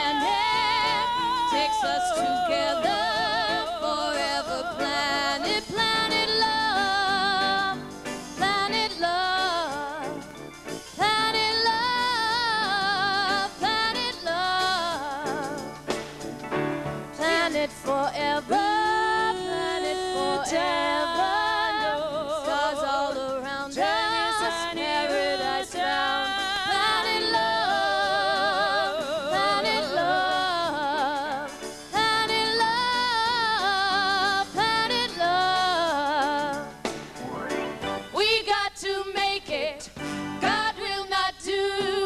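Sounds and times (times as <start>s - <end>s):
woman singing wordlessly: 0.0s - 10.2s, 11.0s - 15.6s, 17.2s - 36.7s, 38.2s - 42.0s.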